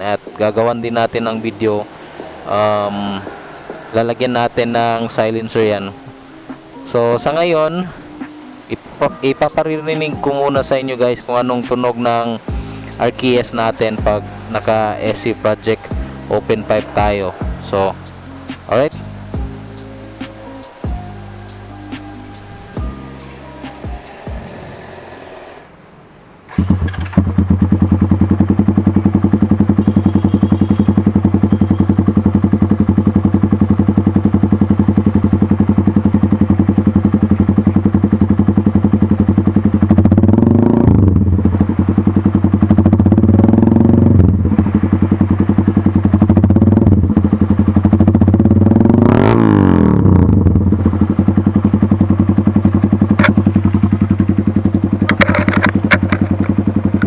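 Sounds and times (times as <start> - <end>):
motorcycle engine idling and revving: 0.0 - 25.8, 26.5 - 57.0.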